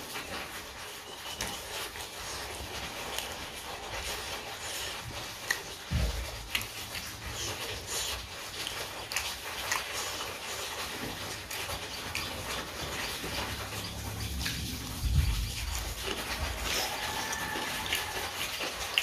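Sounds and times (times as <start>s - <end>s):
person chewing: 1.3s - 19.0s.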